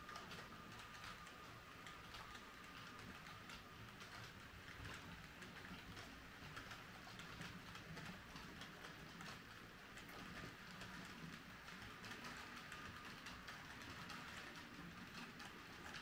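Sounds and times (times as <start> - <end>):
model train wheels clicking: 0.0 - 16.0.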